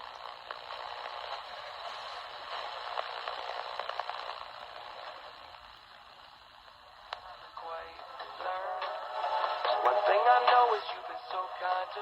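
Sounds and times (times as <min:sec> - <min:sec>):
radio crackles: 0:00.0 - 0:12.0
radio static hiss: 0:00.0 - 0:12.0
radio station: 0:00.5 - 0:12.0.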